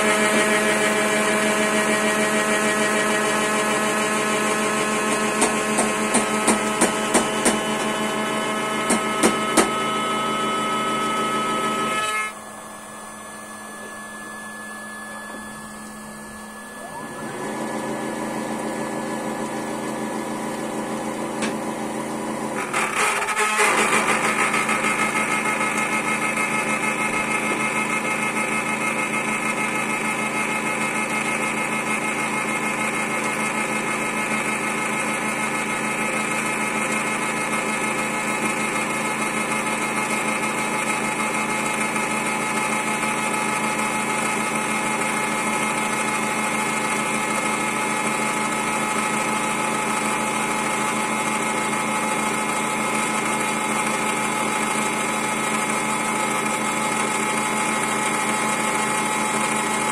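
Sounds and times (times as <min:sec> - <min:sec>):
cnc router spindle machining wood: 0:00.0 - 0:59.9.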